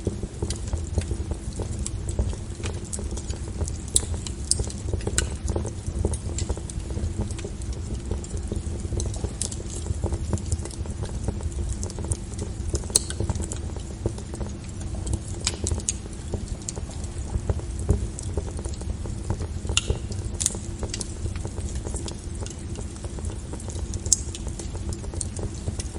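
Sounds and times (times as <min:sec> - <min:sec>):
burning wood crackling and popping: 0:00.0 - 0:25.9
fire flames rumbling: 0:00.0 - 0:25.9.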